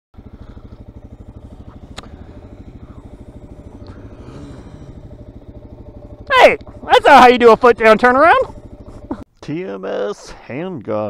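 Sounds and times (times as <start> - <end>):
motorcycle engine idling: 0.2 - 9.3.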